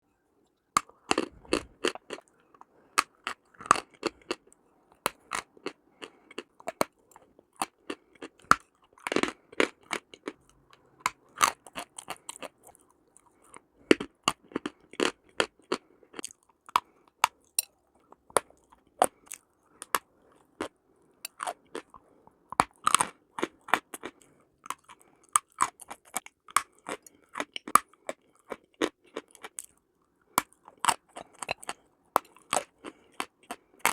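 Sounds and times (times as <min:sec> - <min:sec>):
crunching and chewing mineral: 0:00.3 - 0:33.9.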